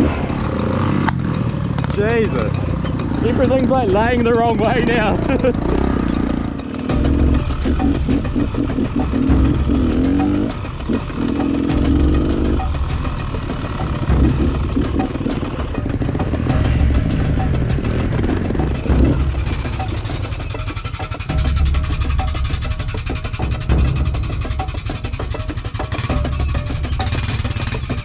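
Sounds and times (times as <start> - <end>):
bike knocking and rattling: 0.0 - 28.0
dirt bike engine revving: 0.0 - 28.0.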